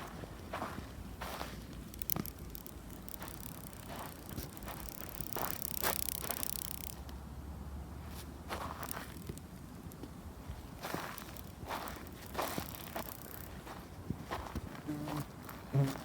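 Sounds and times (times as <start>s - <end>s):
footsteps crunching on forest ground: 0.0s - 6.9s, 10.0s - 16.0s.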